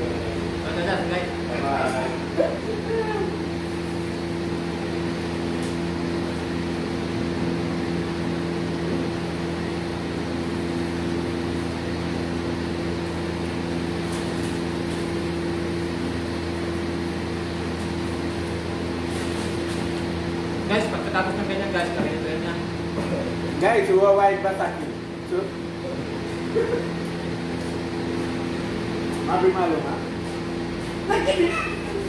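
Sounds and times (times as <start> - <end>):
exhaust fan humming: 0.0 - 32.0.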